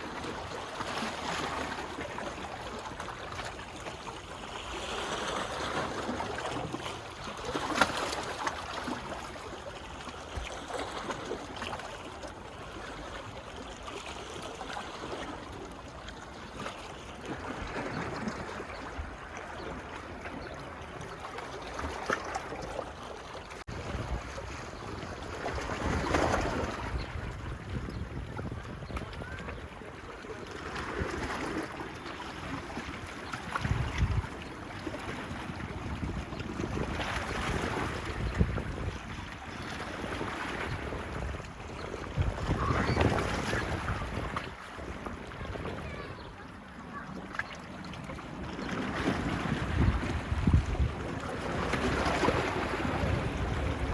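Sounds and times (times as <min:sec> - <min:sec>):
small waves washing onto beach: 0:00.0 - 0:53.9.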